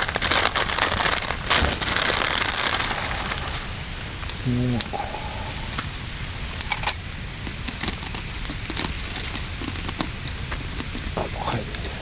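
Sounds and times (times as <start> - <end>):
fire hiss: 0.0 - 12.0
wood fire crackling and popping: 0.0 - 12.0.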